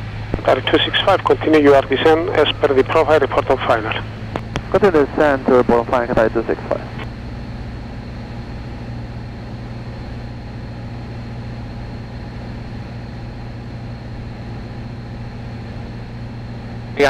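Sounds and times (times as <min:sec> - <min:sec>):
airplane engine droning in cockpit: 0:00.0 - 0:17.0.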